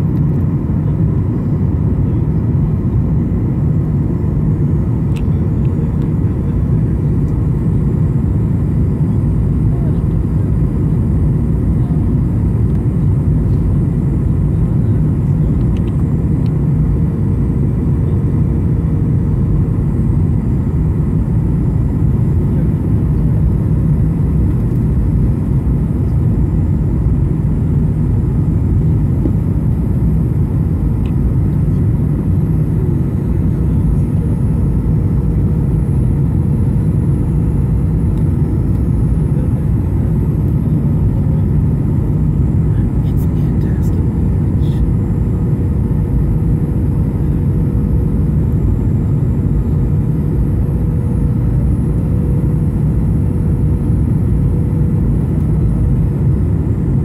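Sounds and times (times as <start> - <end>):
faint steady hum: 0.0 - 57.0
jet engine and airflow rumble: 0.0 - 57.0.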